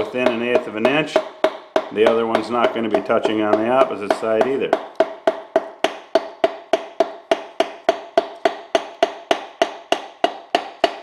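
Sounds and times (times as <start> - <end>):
hammer tapping on piston: 0.0 - 11.0.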